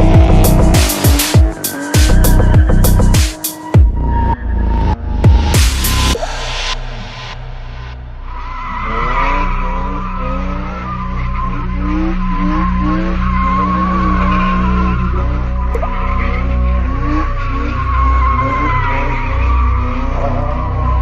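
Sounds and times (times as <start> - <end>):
car engine running hard: 0.0 - 21.0.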